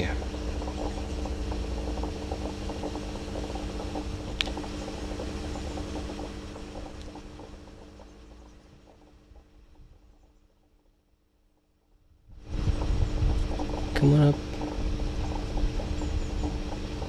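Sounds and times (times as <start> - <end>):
machine hum with held tones: 0.0 - 17.0.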